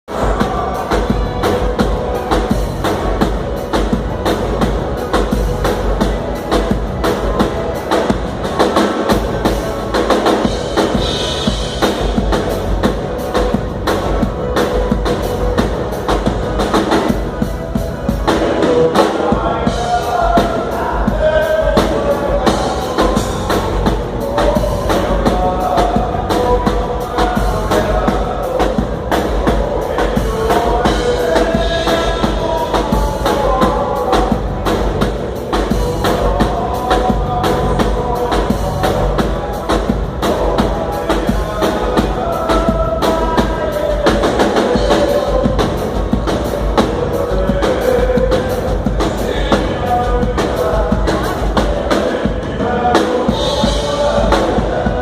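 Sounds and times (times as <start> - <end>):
dance band playing: 0.0 - 55.0
drum kit fast beat: 0.0 - 55.0.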